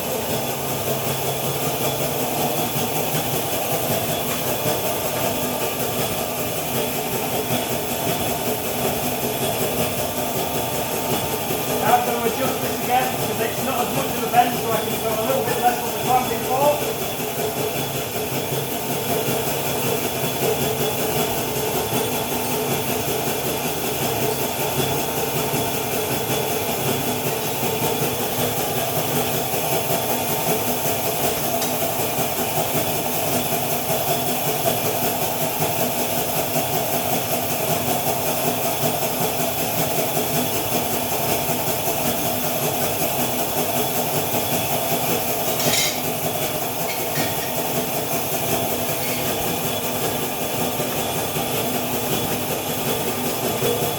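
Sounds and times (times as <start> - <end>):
machine humming with hiss: 0.0 - 53.9.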